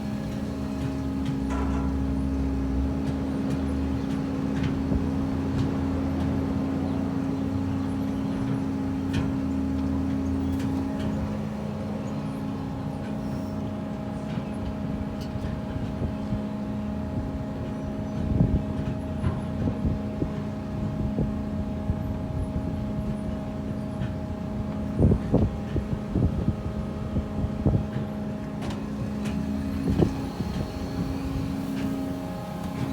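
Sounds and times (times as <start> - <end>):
machinery humming: 0.0 - 32.9.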